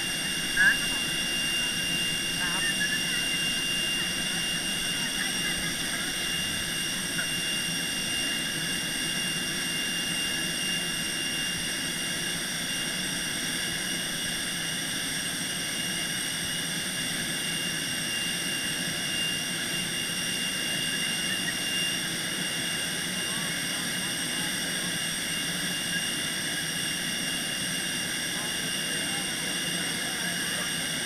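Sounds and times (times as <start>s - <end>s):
jet turbine running: 0.0s - 31.0s.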